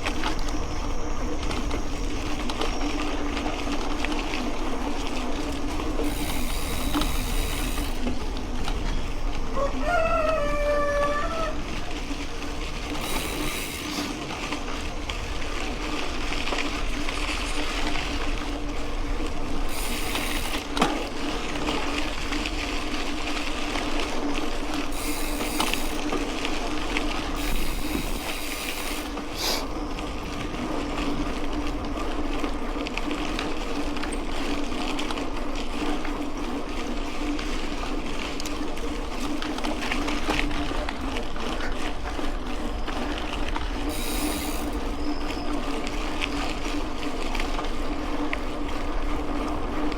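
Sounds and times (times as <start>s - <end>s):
bike tyres rolling on dirt: 0.0s - 49.9s.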